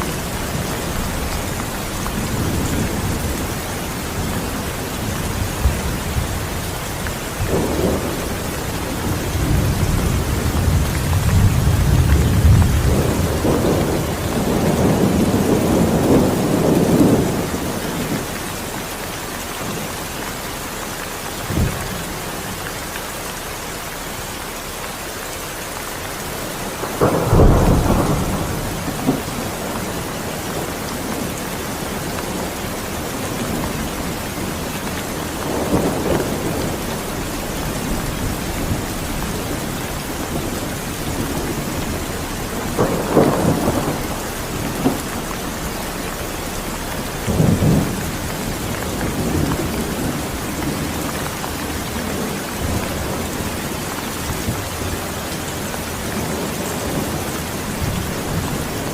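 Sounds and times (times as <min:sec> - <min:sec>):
thunder rumbling: 0:00.0 - 0:20.2, 0:26.0 - 0:58.9
steady rain: 0:00.0 - 0:58.9.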